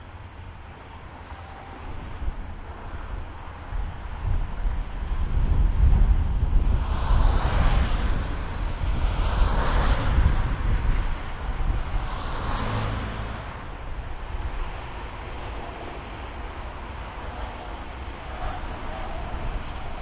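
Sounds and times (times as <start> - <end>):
distant airplane approaching: 0.0 - 20.0
gusty wind buffeting microphone: 0.0 - 20.0.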